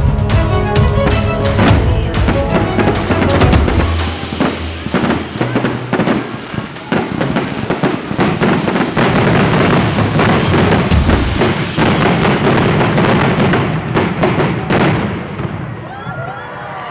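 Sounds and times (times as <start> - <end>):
fireworks crackling and bursting: 0.0 - 15.9
deep firework boom: 0.9 - 15.8.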